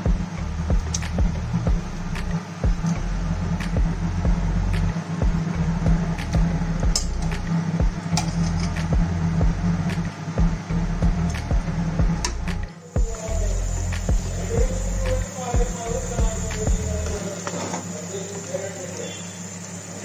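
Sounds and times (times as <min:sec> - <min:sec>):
background music with steady beat: 0:00.0 - 0:17.4.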